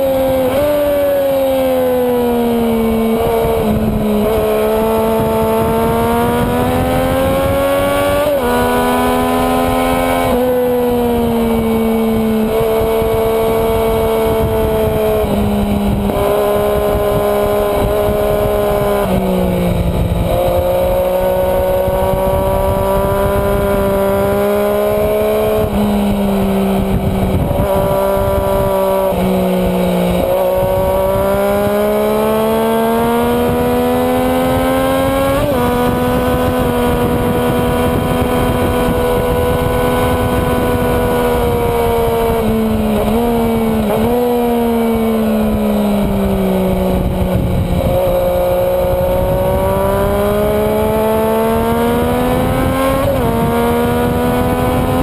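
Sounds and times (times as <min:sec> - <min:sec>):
motorcycle engine revving: 0:00.0 - 0:55.0
wind rushing over microphone: 0:00.0 - 0:55.0.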